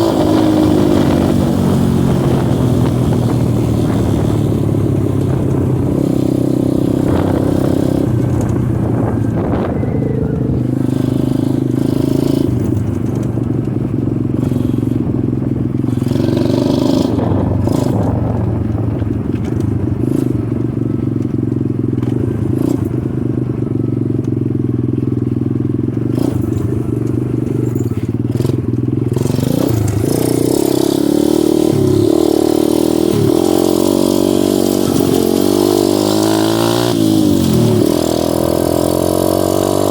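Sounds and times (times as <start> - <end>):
dirt bike engine revving: 0.0 - 24.0, 24.6 - 39.9.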